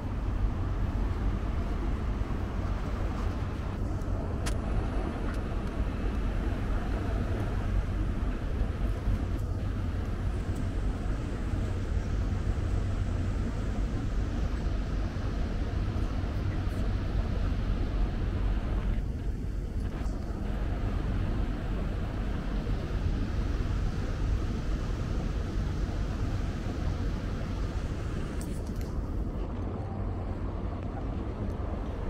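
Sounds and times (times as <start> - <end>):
low engine rumble: 0.0 - 32.0.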